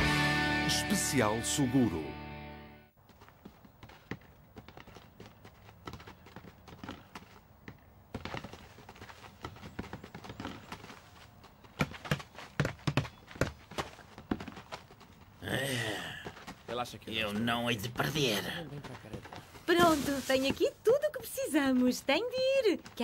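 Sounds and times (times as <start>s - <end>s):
footsteps: 2.9s - 23.0s.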